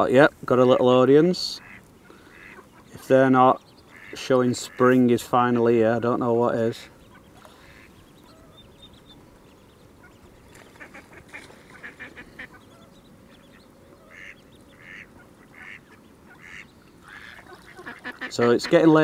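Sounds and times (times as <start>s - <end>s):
ducks quacking: 0.5s - 19.0s.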